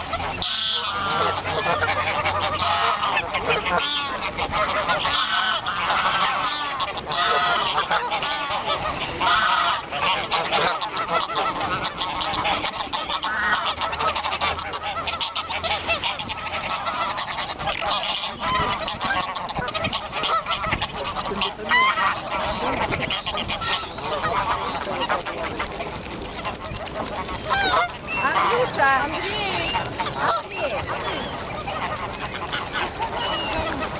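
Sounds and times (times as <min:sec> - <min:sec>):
geese honking: 0:00.0 - 0:33.9.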